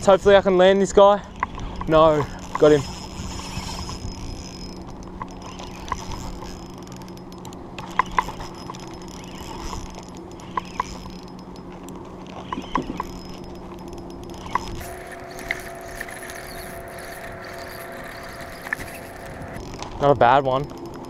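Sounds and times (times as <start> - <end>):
fishing reel ticking: 0.0 - 21.0
steady low hum: 0.0 - 21.0.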